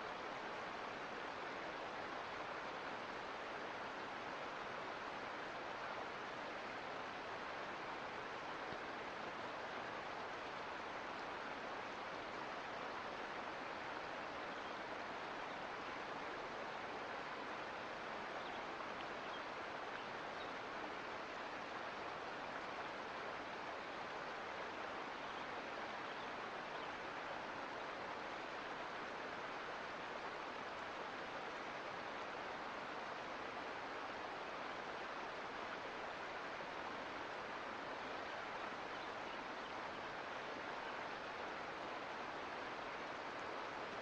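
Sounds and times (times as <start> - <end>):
creek water running over rocks: 0.0 - 44.0.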